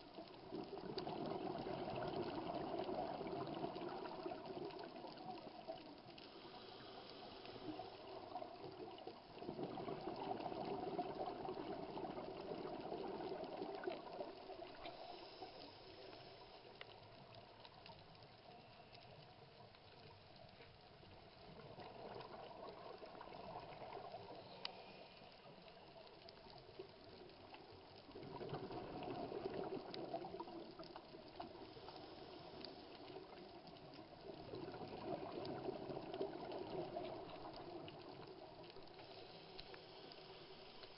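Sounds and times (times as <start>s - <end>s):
underwater exhaust bubbles: 0.0s - 18.5s, 19.5s - 40.9s
faint ticks: 0.0s - 40.9s
low watery hiss: 0.0s - 40.9s.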